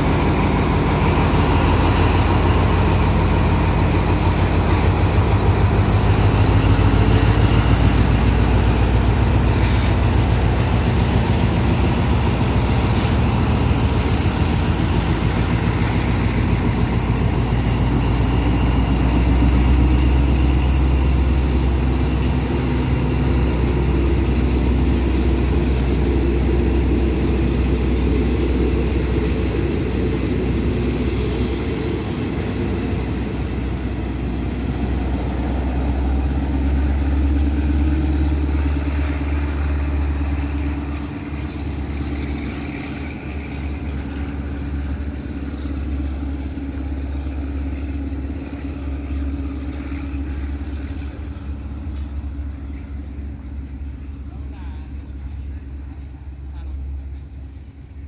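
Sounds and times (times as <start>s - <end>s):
diesel engine drone: 0.0s - 58.0s
train coaches rolling on rails: 0.0s - 58.0s.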